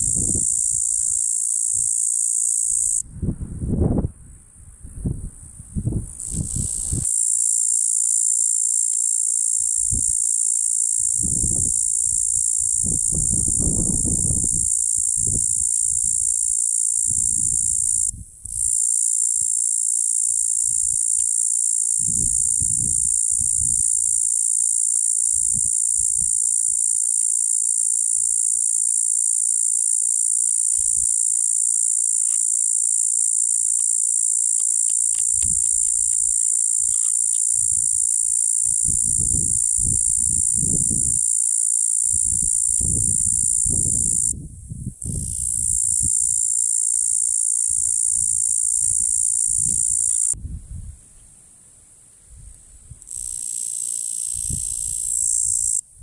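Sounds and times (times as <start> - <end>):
cicada buzzing: 0.0 - 3.0, 6.0 - 44.4, 45.0 - 50.4, 53.0 - 55.9.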